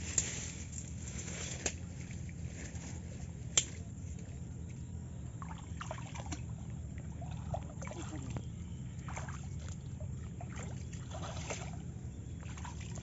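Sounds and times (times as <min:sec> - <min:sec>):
water sloshing around wading person: 0:00.0 - 0:13.0.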